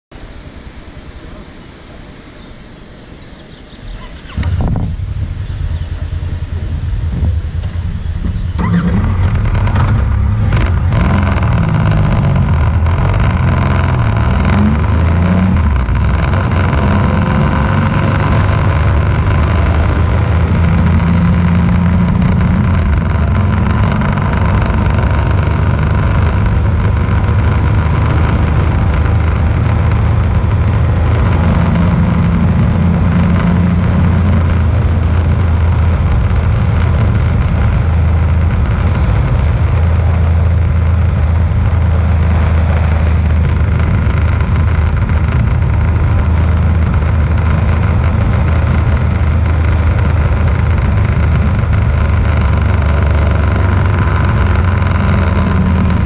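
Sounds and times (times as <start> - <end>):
wind and road noise: 0.1 - 56.0
vehicle engine running: 3.3 - 56.0.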